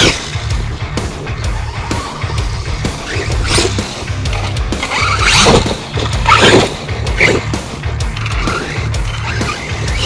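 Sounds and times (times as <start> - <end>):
background music with pulsing bass: 0.0 - 10.0.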